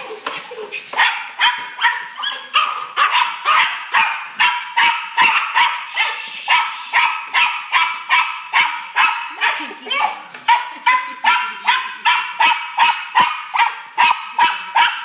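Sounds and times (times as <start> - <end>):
dog barking excitedly: 0.0 - 15.0.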